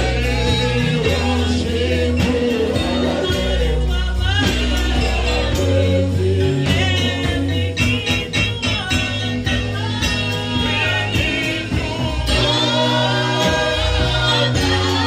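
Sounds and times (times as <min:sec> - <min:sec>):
gospel singers: 0:00.0 - 0:15.0
instrumental backing with beat: 0:00.0 - 0:15.0.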